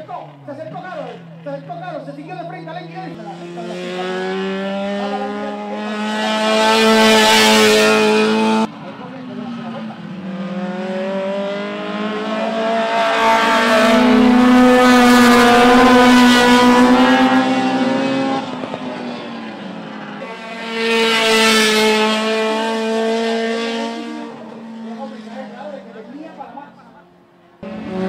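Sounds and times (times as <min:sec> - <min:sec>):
race car engines passing: 0:00.0 - 0:28.0.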